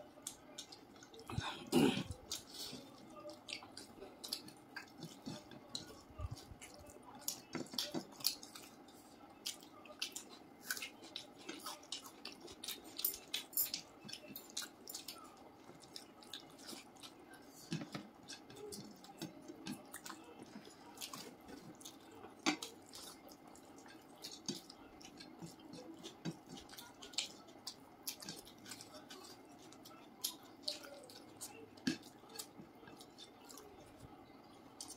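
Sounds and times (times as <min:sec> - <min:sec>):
chewing smacks: 0:00.2 - 0:34.9
fingers squishing food: 0:00.2 - 0:34.9.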